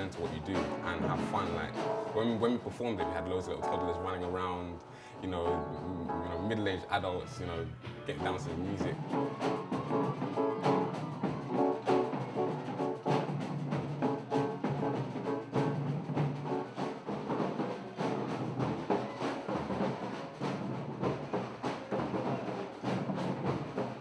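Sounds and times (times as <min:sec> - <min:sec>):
percussion-driven music: 0:00.0 - 0:07.1, 0:07.8 - 0:24.0.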